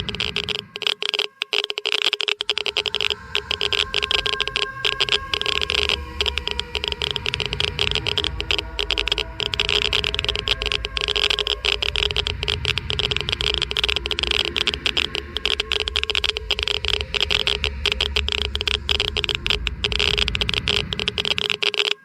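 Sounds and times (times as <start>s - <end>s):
geiger counter clicking rapidly: 0.0s - 22.0s
low steady rumble: 2.5s - 21.6s.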